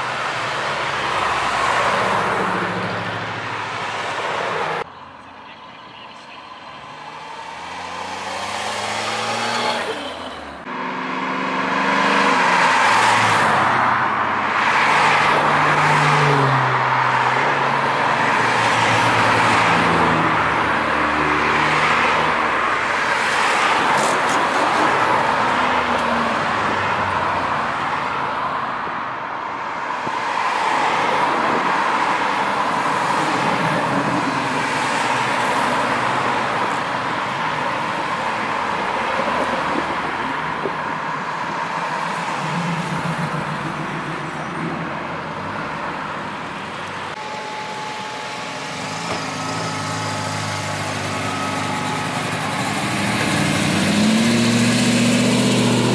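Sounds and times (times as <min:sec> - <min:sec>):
cars driving past: 0:00.0 - 0:55.9.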